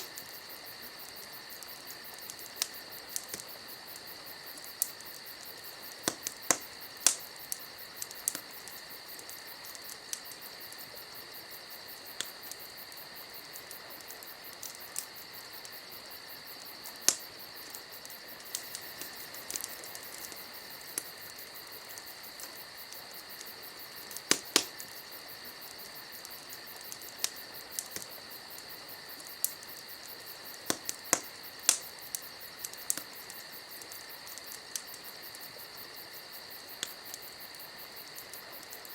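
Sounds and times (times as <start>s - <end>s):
campfire crackling: 0.0s - 38.9s
fire popping and snapping: 0.0s - 38.9s.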